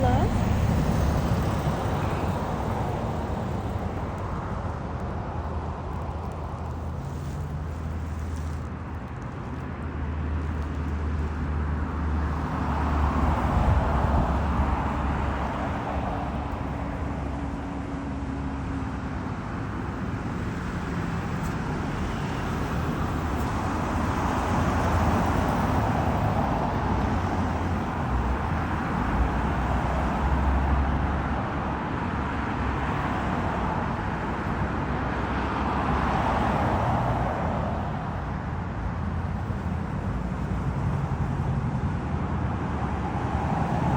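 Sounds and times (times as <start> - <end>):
low traffic rumble: 0.0 - 43.9
vehicles passing: 0.0 - 43.9.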